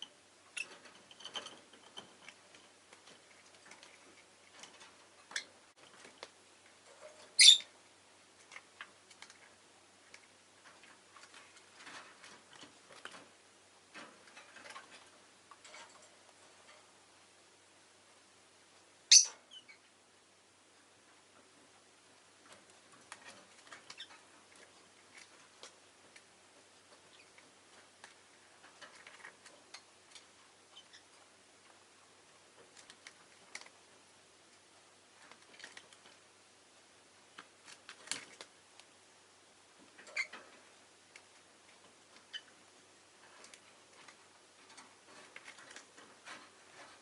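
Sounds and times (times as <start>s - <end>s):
birds clicking and nibbling in cage: 0.0s - 19.9s, 20.6s - 47.0s.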